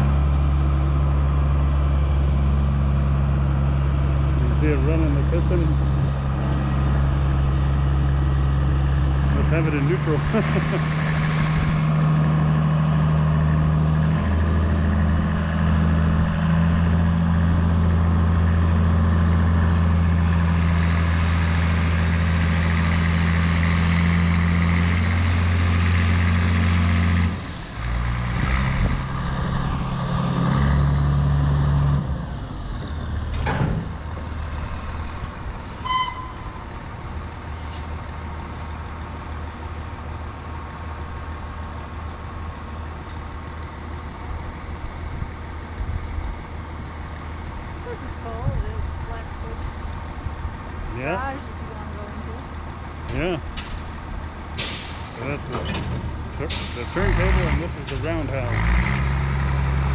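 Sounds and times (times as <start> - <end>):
diesel engine running hard: 0.0 - 59.9.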